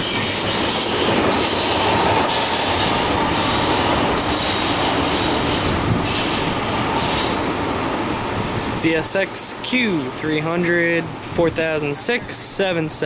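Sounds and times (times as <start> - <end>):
train wheels on rails: 0.0 - 11.3.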